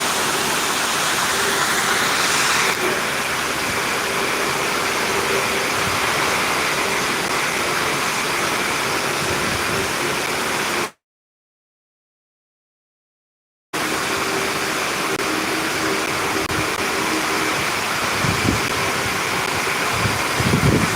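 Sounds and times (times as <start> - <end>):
heavy rain hissing: 0.0 - 10.9, 13.8 - 20.9.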